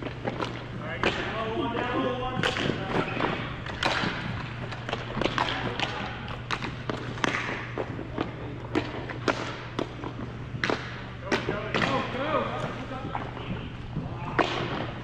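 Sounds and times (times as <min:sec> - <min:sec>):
steady low hum: 0:00.0 - 0:15.0
thuds and taps of team game: 0:00.2 - 0:14.9.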